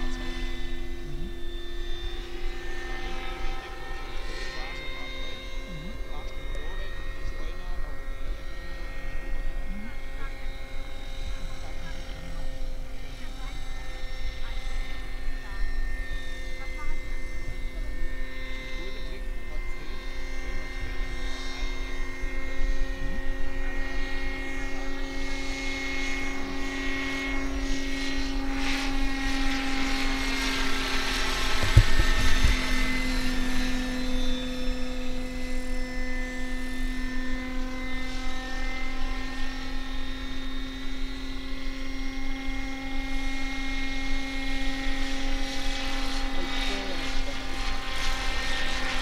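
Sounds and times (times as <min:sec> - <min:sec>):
model helicopter whining: 0:00.0 - 0:49.0.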